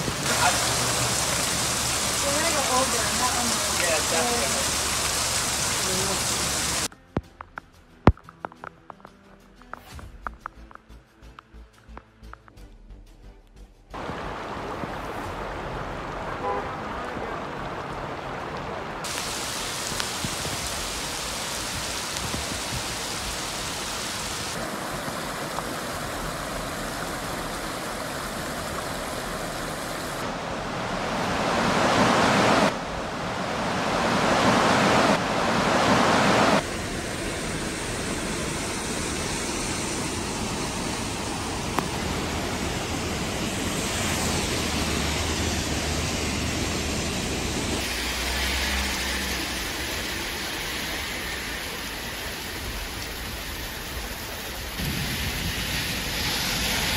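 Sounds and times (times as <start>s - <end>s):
car driving on wet road: 0.0s - 6.9s, 14.0s - 56.9s
heavy rain on pavement: 0.0s - 6.9s, 14.0s - 56.9s
water rushing down stairs: 0.0s - 6.9s, 14.0s - 56.9s.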